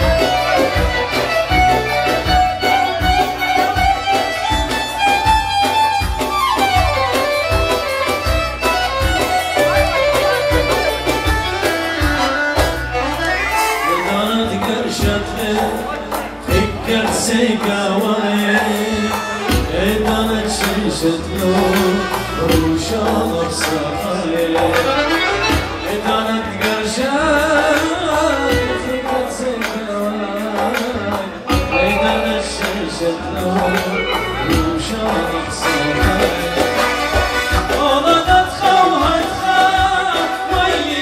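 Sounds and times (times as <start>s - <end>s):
drum strokes: 0.0s - 41.0s
folk music melody: 0.0s - 41.0s.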